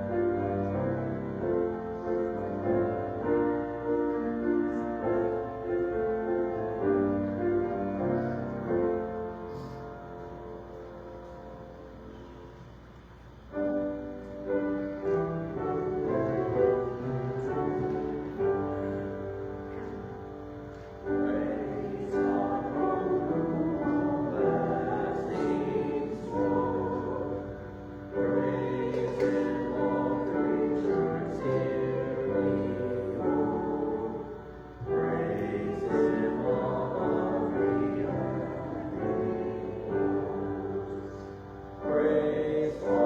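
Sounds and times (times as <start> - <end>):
choir singing: 0.0 - 9.4, 14.5 - 43.0
piano accompaniment: 0.0 - 43.0.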